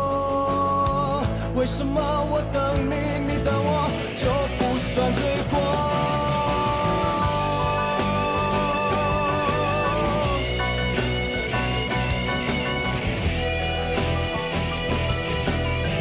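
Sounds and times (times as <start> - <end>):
bass guitar: 0.0 - 16.0
lead guitar with vibrato: 0.0 - 16.0
steady drums: 0.0 - 16.0.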